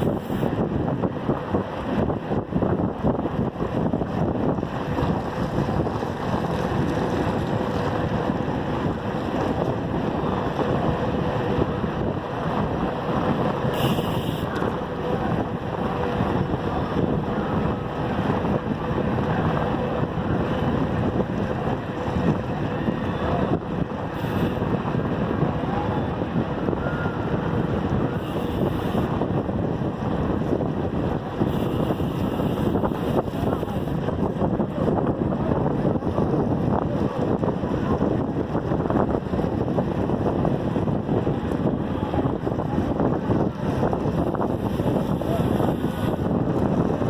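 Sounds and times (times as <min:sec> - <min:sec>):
bicycle road noise: 0:00.0 - 0:47.0
wind buffeting microphone: 0:00.0 - 0:47.0.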